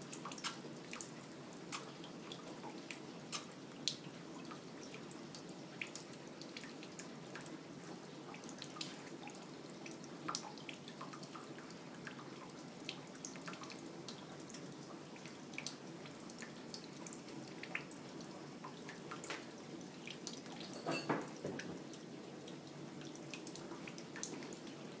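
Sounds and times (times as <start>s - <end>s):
water drips: 0.0s - 25.0s
water trickling into a sink: 0.1s - 25.0s.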